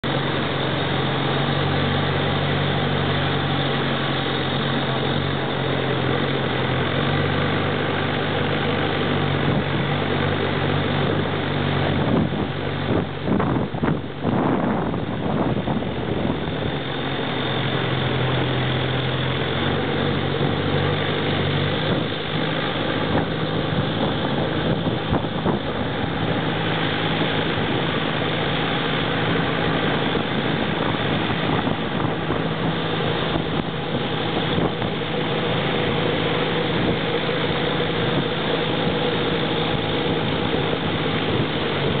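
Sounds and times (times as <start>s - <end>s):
boat engine droning: 0.0s - 42.0s
wind and water hiss: 0.0s - 42.0s.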